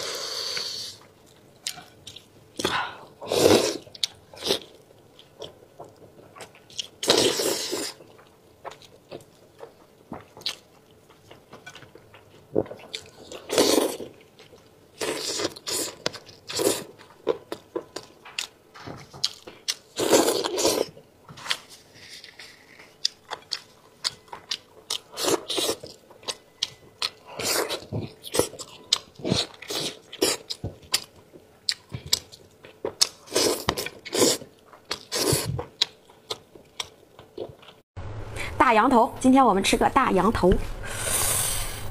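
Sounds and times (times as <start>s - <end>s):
person chewing meat: 0.0s - 37.8s.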